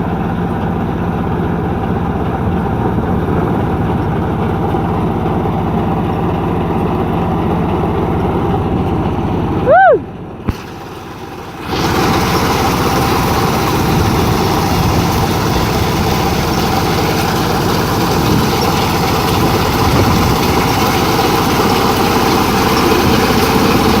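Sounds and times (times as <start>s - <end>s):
combine harvester engine rumble: 0.0s - 24.0s.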